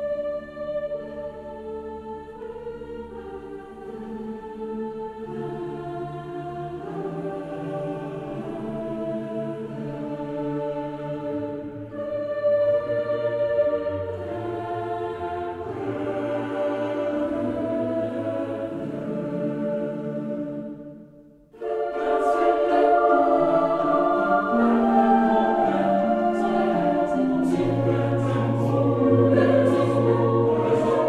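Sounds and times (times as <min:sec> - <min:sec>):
choir singing sustained chords: 0:00.0 - 0:31.0.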